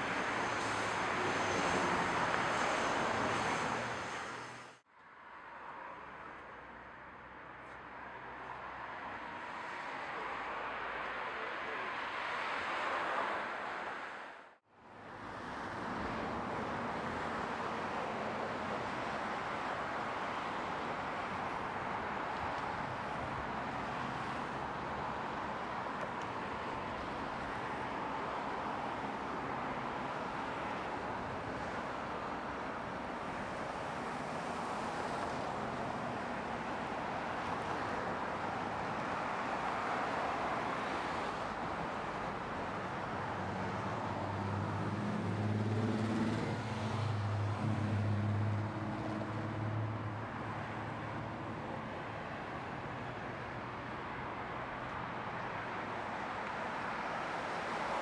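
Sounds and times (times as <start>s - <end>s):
traffic hum: 0.0s - 58.0s.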